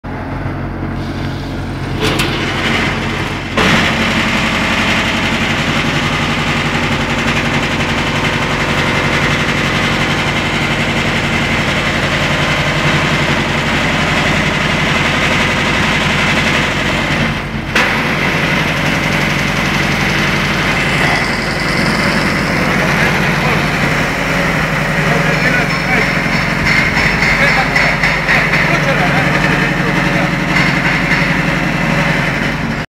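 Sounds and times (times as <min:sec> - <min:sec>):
wood shaving machine whirring: 0:01.0 - 0:32.9.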